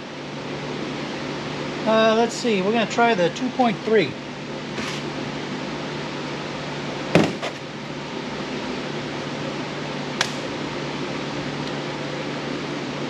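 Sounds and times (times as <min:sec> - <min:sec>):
fan-like hum and hiss: 0:00.0 - 0:13.0.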